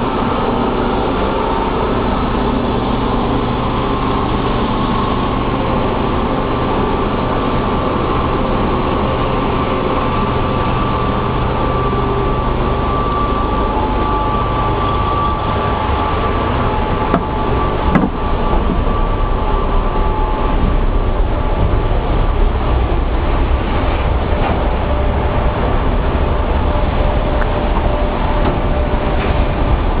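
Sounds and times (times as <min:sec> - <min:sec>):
faint machine whines: 0:00.0 - 0:30.0
industrial machinery din: 0:00.0 - 0:30.0.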